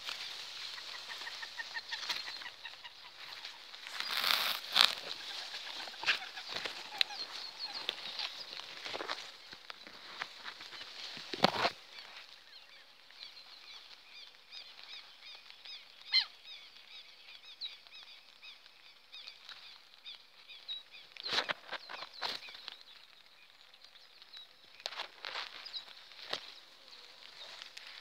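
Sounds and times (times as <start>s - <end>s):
leaves and stems rustling and snapping: 0.0s - 16.2s, 18.3s - 28.0s.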